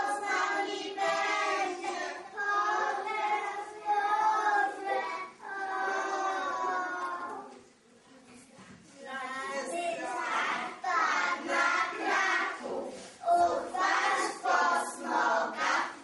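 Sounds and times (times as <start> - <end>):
children singing together: 0.0 - 7.6, 9.7 - 16.0.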